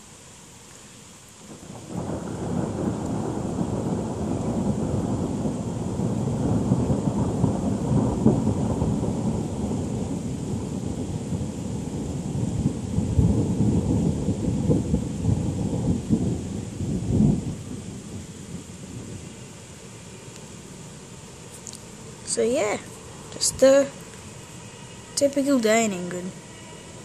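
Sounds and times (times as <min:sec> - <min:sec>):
steady rain: 0:00.0 - 0:27.0
thunder rumbling: 0:01.5 - 0:27.0.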